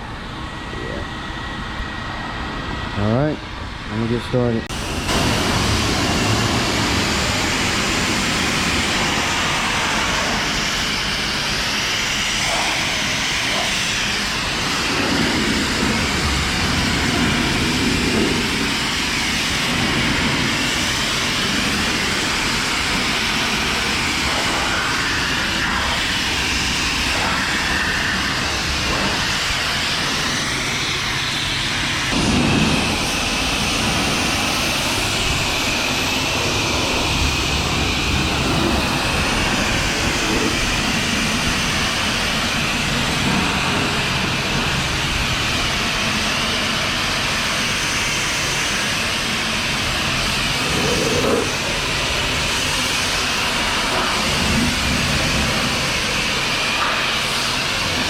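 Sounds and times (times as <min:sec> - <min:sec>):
pressure washer spraying car: 0:04.7 - 0:58.0.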